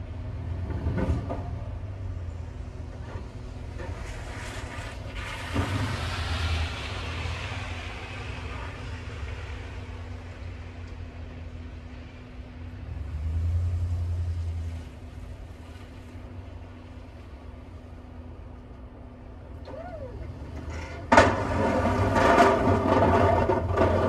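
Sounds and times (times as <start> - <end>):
plow blade scraping pavement: 0.0 - 18.9, 19.7 - 24.0
distant truck engine hum: 0.0 - 24.0.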